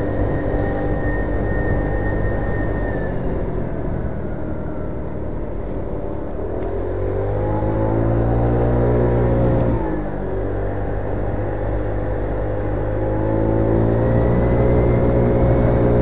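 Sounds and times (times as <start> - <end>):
low wind rumble: 0.0 - 16.0
motor scooter engine: 0.0 - 16.0.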